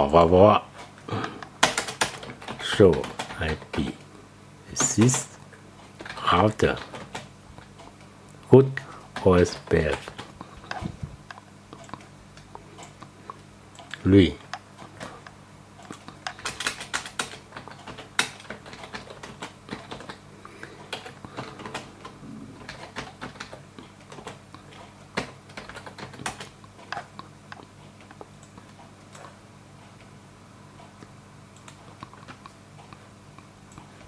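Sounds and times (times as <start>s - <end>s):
low steady hum: 0.0s - 34.0s
computer keyboard and mouse clicking: 0.8s - 4.1s, 4.7s - 29.4s, 30.8s - 34.0s.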